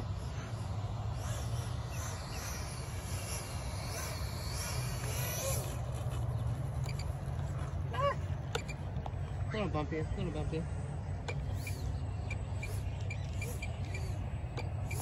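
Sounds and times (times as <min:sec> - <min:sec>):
model jet electric fan whining: 0:00.0 - 0:15.0.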